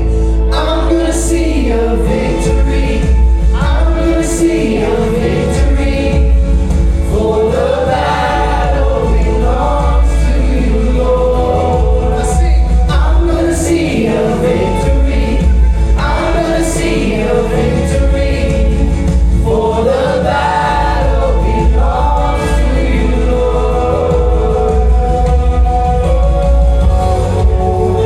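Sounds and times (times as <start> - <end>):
band with steady bass line: 0.0 - 28.0
voices singing together: 0.0 - 28.0.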